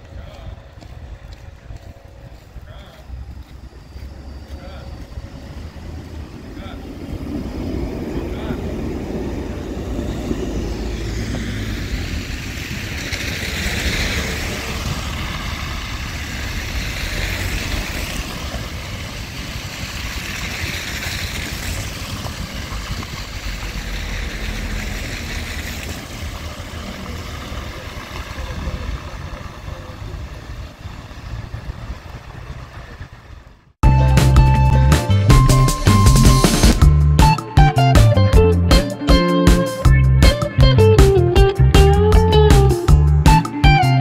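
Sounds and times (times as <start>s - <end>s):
tram rumbling and hissing: 0.0s - 44.0s.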